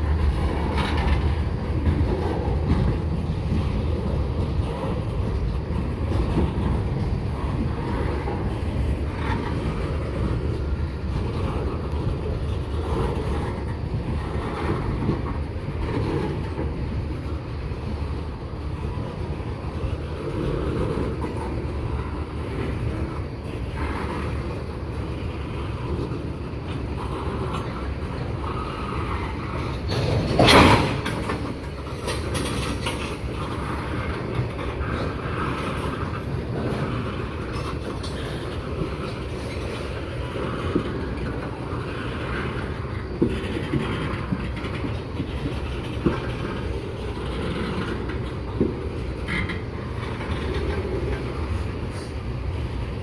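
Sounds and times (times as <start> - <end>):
railroad cars rolling on rails: 0.0 - 53.0.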